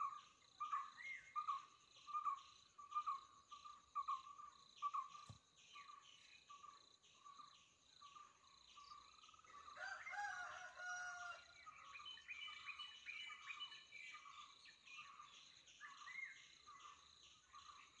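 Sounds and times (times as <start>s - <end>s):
insect chorus chirping: 0.0s - 18.0s.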